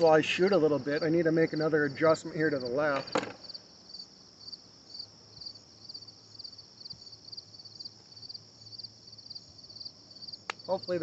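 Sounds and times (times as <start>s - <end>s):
crickets chirping: 0.0s - 11.0s
high insect buzz: 0.0s - 11.0s.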